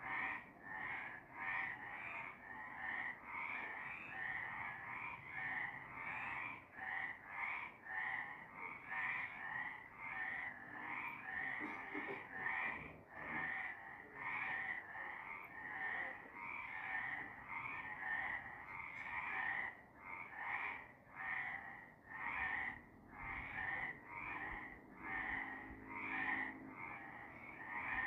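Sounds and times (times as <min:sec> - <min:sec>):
frogs croaking in chorus: 0:00.0 - 0:28.0.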